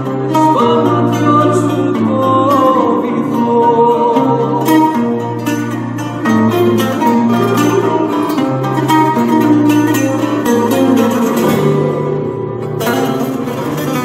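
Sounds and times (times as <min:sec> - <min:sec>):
lute and guitars playing: 0:00.0 - 0:14.0.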